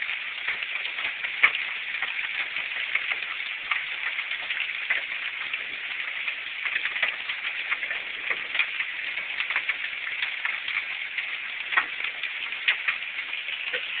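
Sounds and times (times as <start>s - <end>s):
hailstones striking: 0.0s - 14.0s
heavy rain: 0.0s - 14.0s.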